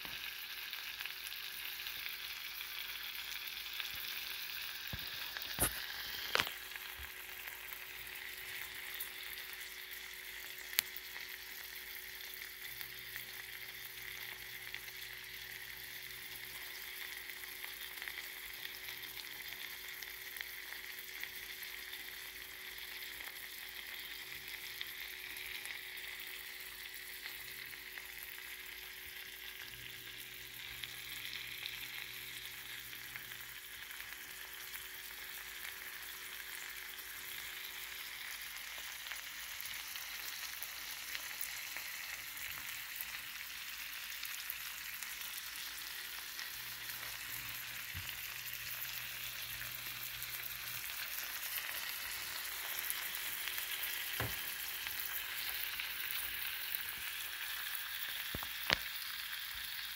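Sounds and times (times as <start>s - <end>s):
fish sizzling in a pan: 0.0s - 59.9s.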